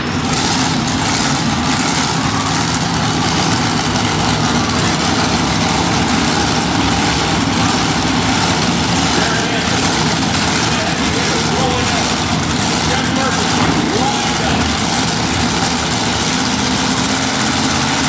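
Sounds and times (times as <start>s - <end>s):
truck engine running loudly: 0.0s - 18.0s.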